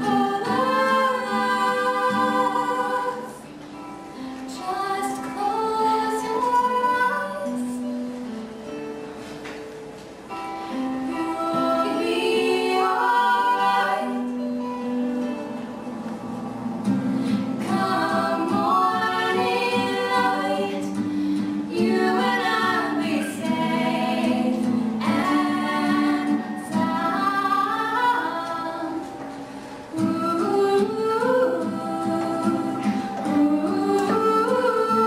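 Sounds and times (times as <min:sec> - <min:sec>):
two women singing pop ballad: 0:00.0 - 0:03.5, 0:04.4 - 0:07.9, 0:10.8 - 0:15.7, 0:17.2 - 0:35.0.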